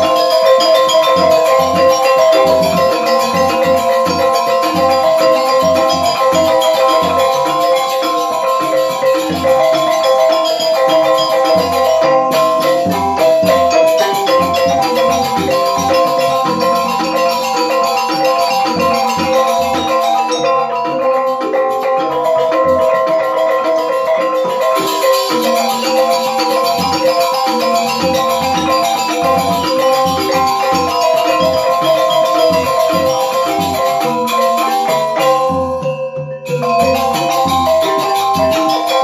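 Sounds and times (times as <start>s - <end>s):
bamboo flute: 0.0s - 39.0s
drum: 0.0s - 39.0s
metallophones ringing: 0.0s - 39.0s.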